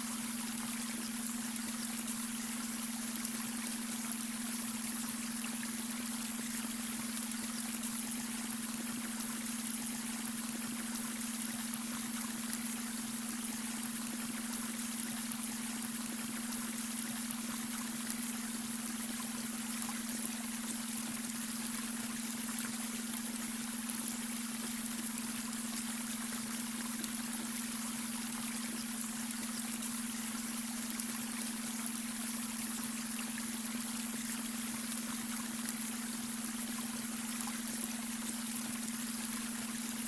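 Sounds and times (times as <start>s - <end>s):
brook water trickling: 0.0s - 40.0s
steady low hum tone: 0.0s - 40.0s.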